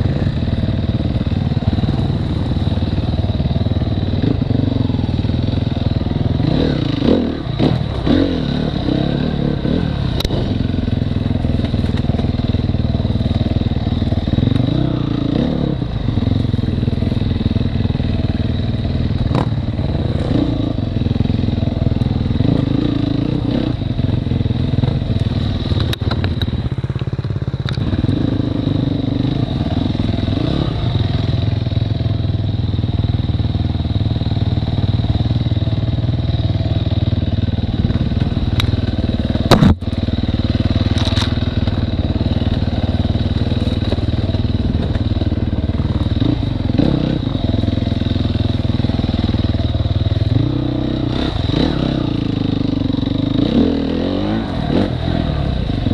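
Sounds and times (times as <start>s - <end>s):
dirt bike engine revving: 0.0s - 11.8s, 12.4s - 26.1s, 27.8s - 31.5s, 37.6s - 55.9s.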